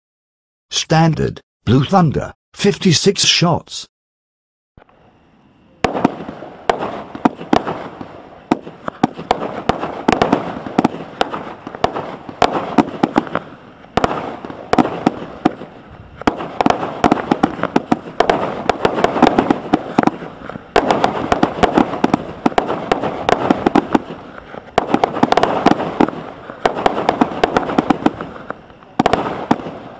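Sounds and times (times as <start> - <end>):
faint fuse hiss: 4.8 - 29.9
steady crackle: 4.8 - 29.9
firework bursting cracks: 5.8 - 29.9.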